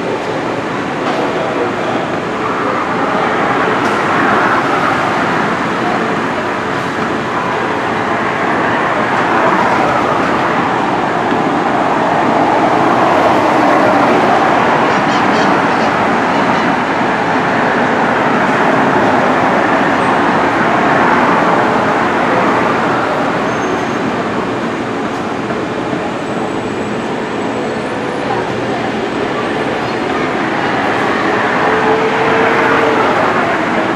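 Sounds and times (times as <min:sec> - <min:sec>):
train rumbling past: 0:00.0 - 0:33.9.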